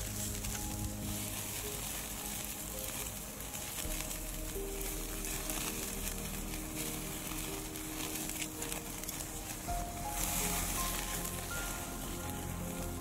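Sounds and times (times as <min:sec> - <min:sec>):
fire crackling: 0:00.0 - 0:13.0
meat sizzling on a grill: 0:00.0 - 0:13.0
soft background music: 0:00.0 - 0:13.0.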